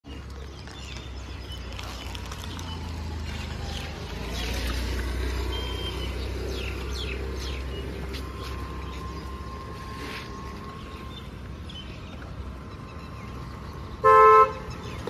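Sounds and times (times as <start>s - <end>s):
road traffic rumble: 0.0s - 15.0s
vehicle passing: 1.0s - 15.0s.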